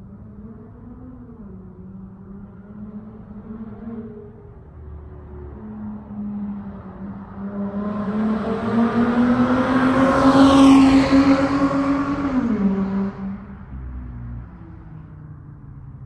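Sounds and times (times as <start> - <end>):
car driving past: 2.3 - 15.2.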